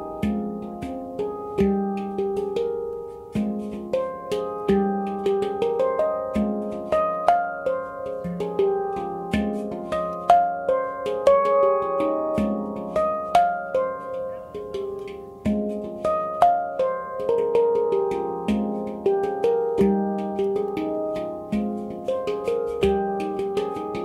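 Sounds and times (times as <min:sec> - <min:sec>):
handpan notes ringing: 0:00.0 - 0:24.0.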